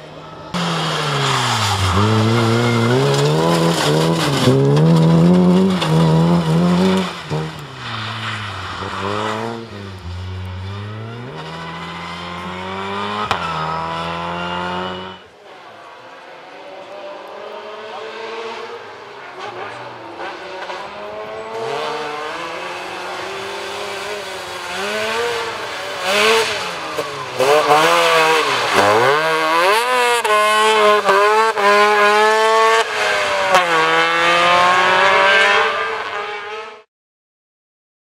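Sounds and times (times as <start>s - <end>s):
rally car engine revving: 0.5s - 15.2s, 15.9s - 36.9s.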